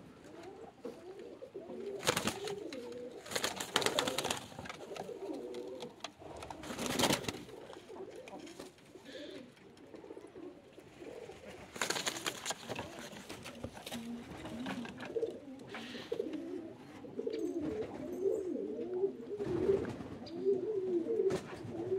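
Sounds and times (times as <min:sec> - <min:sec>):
pigeons cooing: 0:00.0 - 0:21.9.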